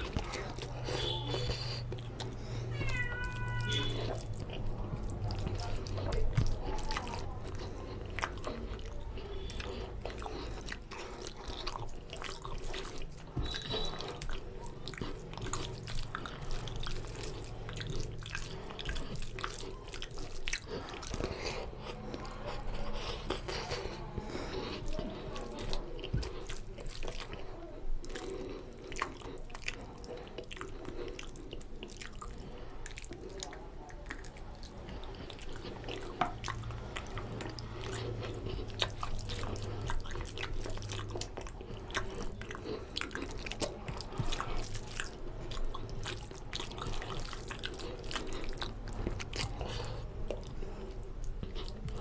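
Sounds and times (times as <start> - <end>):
wet chewing and lip smacking: 0.0 - 52.0.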